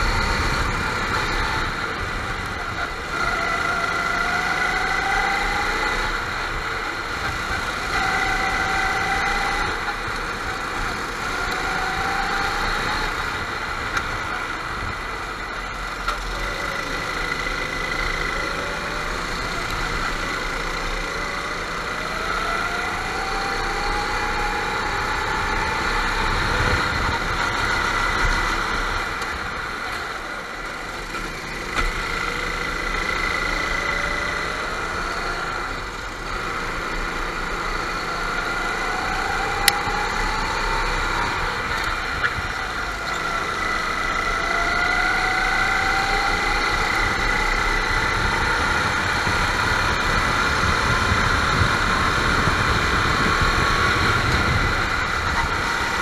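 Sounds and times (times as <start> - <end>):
drone of karts on track: 0.0 - 56.0
kart engines accelerating: 0.0 - 56.0.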